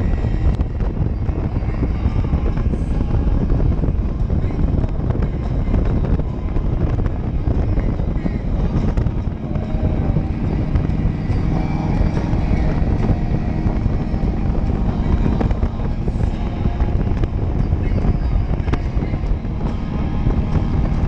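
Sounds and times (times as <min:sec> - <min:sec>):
motorcycle engine running: 0:00.0 - 0:21.0
wind rushing on microphone: 0:00.0 - 0:21.0.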